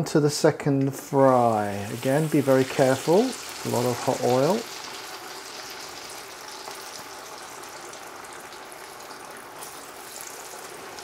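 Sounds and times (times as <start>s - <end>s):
meat deep-frying in hot oil: 1.3s - 11.0s.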